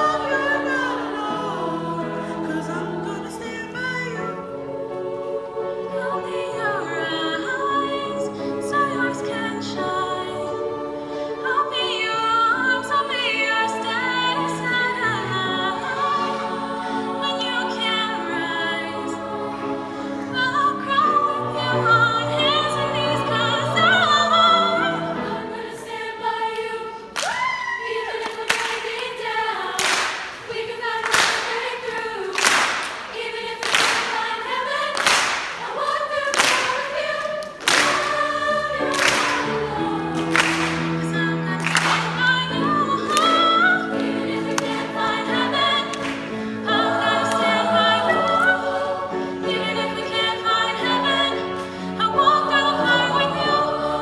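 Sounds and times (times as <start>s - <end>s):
women's choir singing chords: 0.0s - 54.0s.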